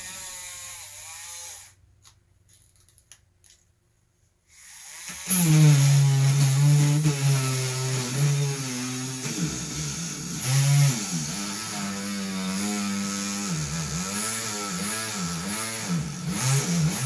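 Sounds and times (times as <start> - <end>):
rotary tool grinding stone: 0.0 - 1.8, 4.6 - 17.0.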